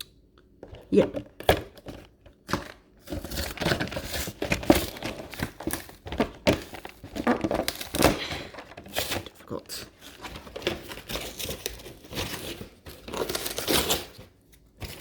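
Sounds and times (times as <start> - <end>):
plastic wrap crinkling and tearing: 1.6 - 15.0.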